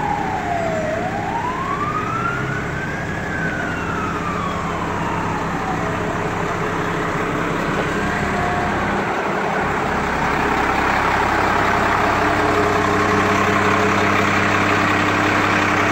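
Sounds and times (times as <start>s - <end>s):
diesel fire engine idling: 0.0s - 15.9s
siren winding down: 0.0s - 15.9s.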